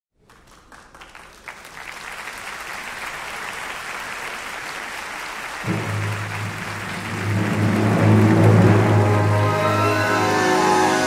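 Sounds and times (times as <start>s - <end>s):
audience applauding: 0.2s - 11.0s.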